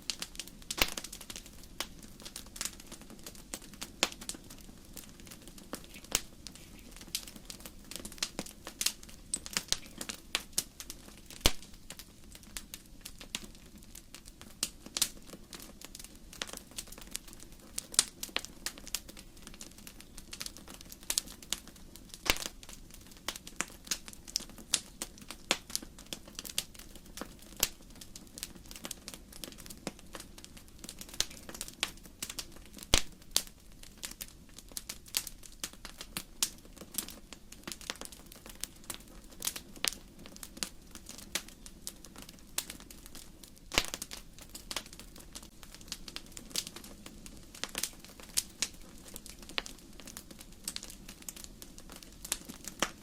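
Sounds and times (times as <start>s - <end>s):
logs crackling and popping: 0.0s - 53.0s
low rumble of flames: 0.0s - 53.0s.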